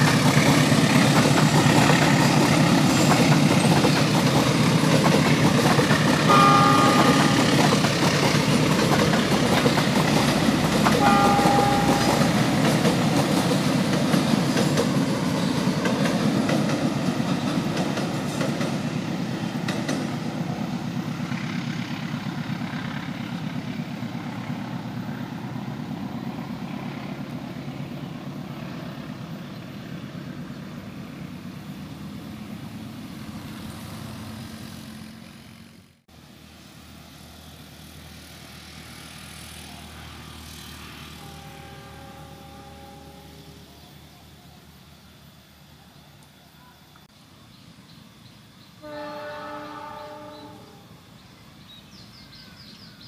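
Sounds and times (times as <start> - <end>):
train wheels on rails: 0.0 - 44.4.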